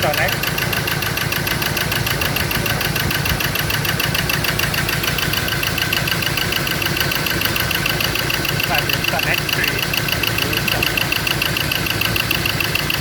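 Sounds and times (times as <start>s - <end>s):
diesel engine idling roughly: 0.0s - 13.0s.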